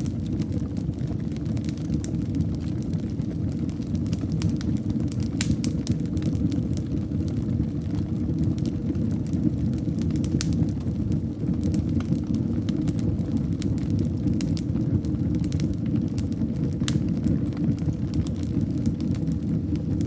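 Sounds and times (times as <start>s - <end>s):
fire crackles and pops: 0.0s - 20.0s
low rumble of fire flames: 0.0s - 20.0s.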